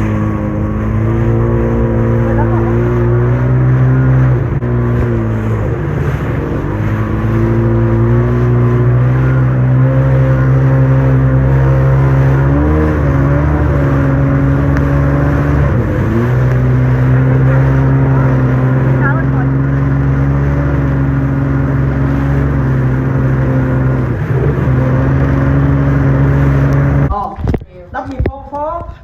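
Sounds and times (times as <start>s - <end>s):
jet ski engine running: 0.0s - 27.2s.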